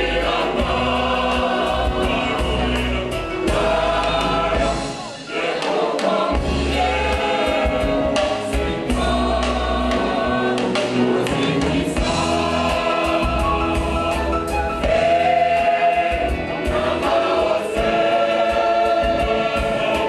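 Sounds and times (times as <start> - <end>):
women's choir singing a hymn: 0.0 - 20.0.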